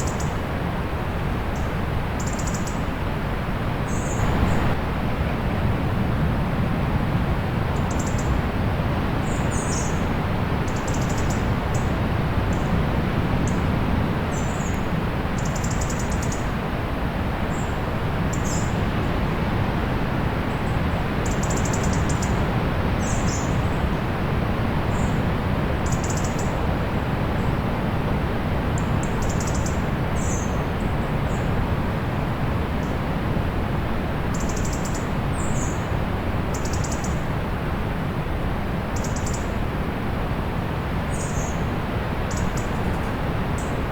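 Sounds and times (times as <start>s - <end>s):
distant sea surf: 0.0s - 43.9s.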